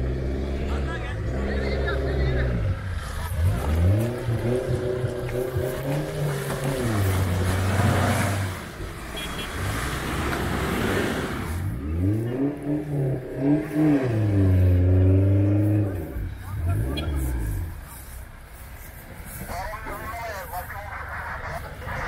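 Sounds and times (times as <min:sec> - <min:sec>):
car engine revving under load: 0:00.0 - 0:18.5.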